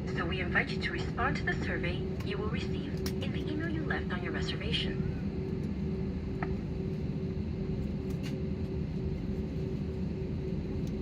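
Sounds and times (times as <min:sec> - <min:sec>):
airplane cabin rumble and hum: 0:00.0 - 0:11.0.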